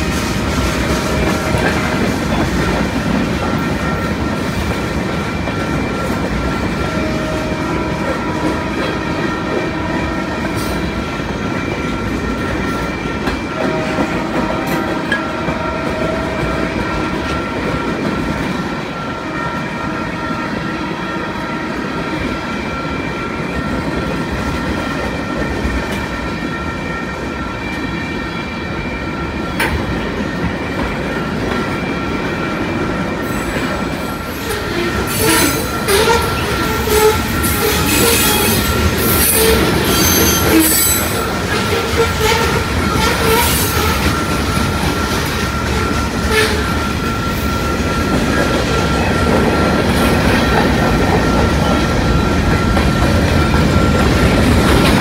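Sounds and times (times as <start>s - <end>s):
freight train wheels clacking: 0.0s - 55.0s
high-pitched ringing from wheels: 0.0s - 55.0s.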